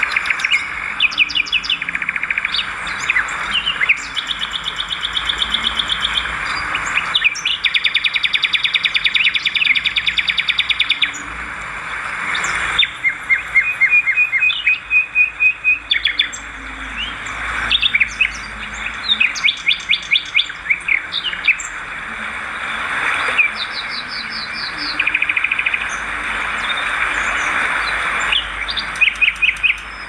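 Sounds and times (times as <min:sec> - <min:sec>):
swiftlets twittering: 0:02.8 - 0:30.0.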